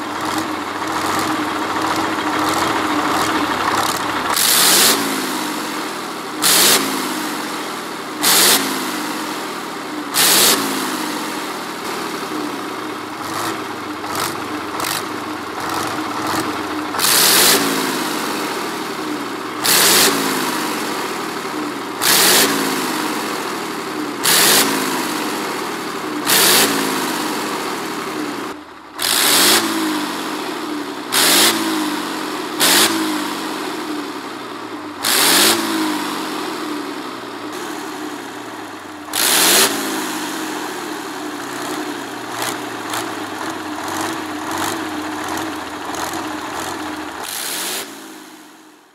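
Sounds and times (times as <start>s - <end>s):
engine revving: 0.0s - 48.8s.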